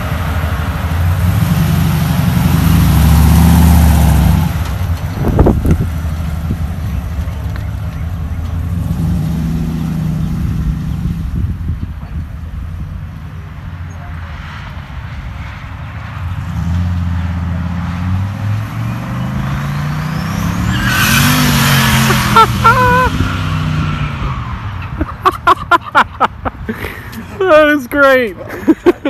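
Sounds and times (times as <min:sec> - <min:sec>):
truck engine accelerating: 0:00.0 - 0:28.1.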